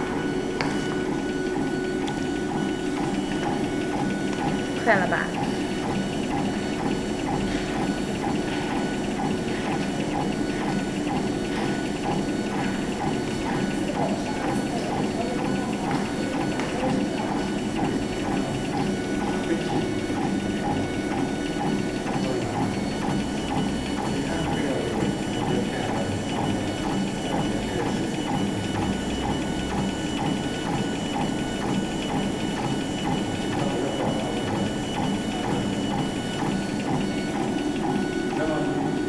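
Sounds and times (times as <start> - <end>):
laser engraver motors whirring: 0.0 - 39.0
steady mechanical hum: 0.0 - 39.0.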